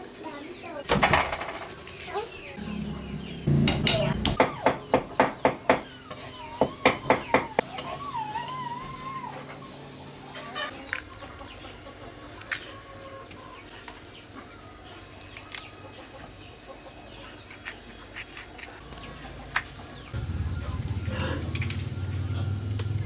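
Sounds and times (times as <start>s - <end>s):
chickens clucking: 0.2s - 23.0s.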